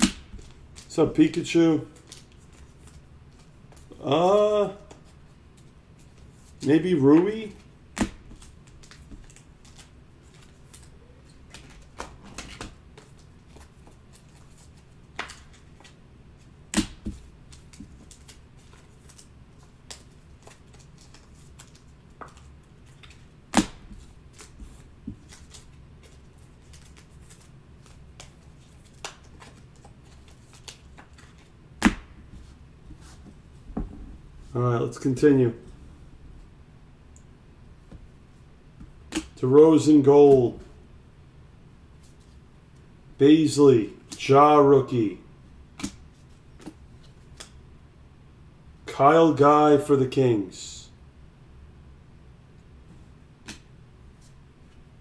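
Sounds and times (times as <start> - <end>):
faint low hum: 0.0 - 55.0.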